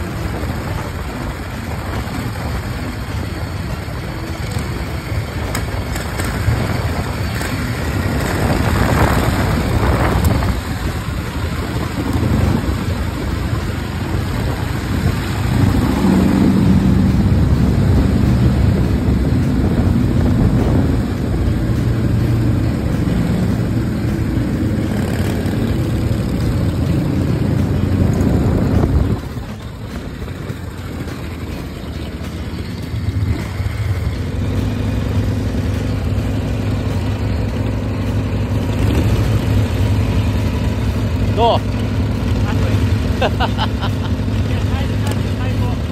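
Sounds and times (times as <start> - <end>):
motorcycle engines running: 0.0 - 45.9.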